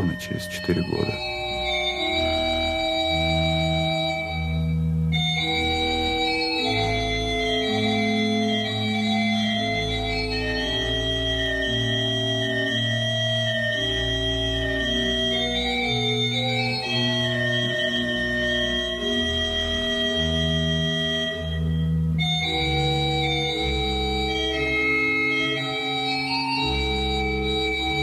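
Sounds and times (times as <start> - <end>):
slow organ chords: 0.0 - 28.0.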